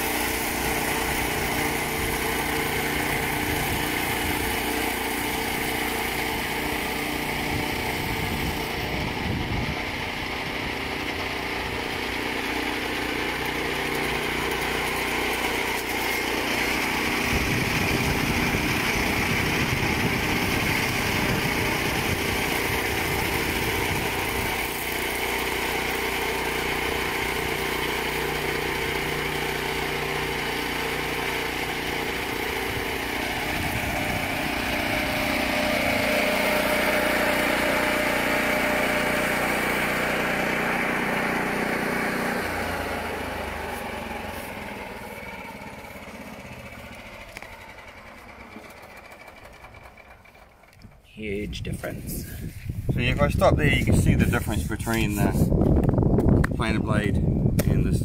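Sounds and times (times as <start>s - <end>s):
sawmill running: 0.0s - 57.8s.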